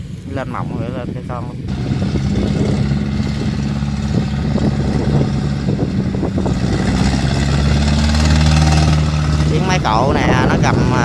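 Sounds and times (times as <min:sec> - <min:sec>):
machine engine roaring: 0:01.5 - 0:11.0.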